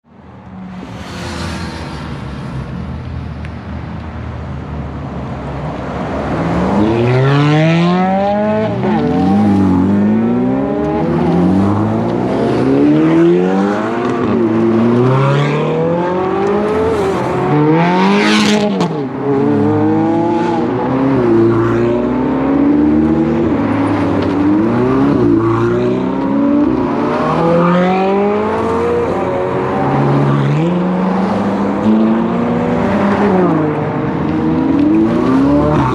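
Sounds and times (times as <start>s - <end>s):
sports car engines revving: 5.8s - 35.9s.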